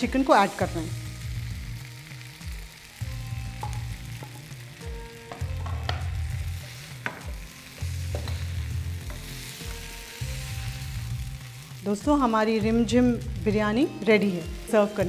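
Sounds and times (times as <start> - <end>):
frying pan sizzling: 0.0 - 15.0.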